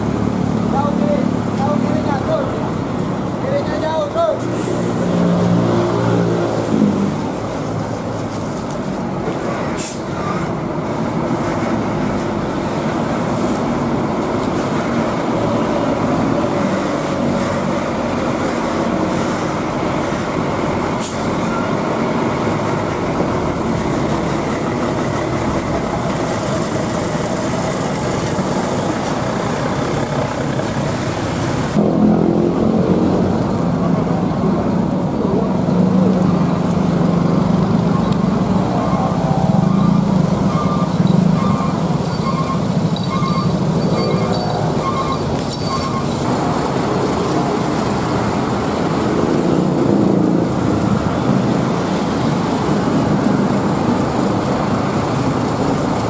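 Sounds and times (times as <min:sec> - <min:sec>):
bus diesel engine running: 0:00.0 - 0:56.0
deep bus engine running: 0:00.0 - 0:56.0.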